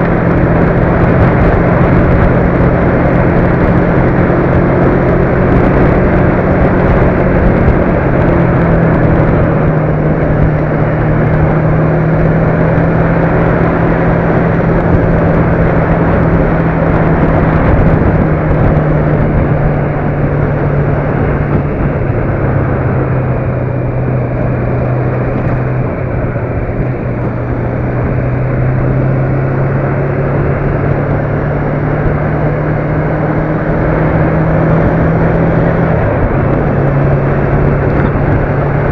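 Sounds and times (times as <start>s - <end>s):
road and wind noise: 0.0s - 38.9s
vehicle engine hum: 0.0s - 38.9s.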